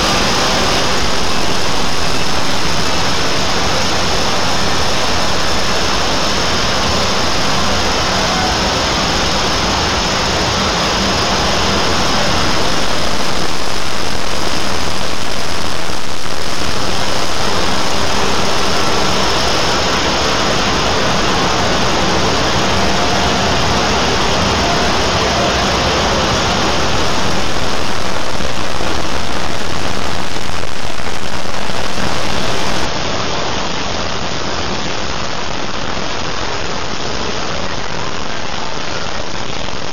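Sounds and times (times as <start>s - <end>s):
layered sped-up audio roar: 0.0s - 32.9s.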